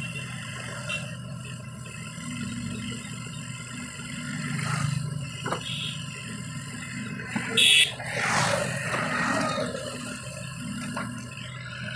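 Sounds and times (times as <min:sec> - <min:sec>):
diesel engine running: 0:00.0 - 0:11.9
passing road traffic: 0:00.0 - 0:11.9.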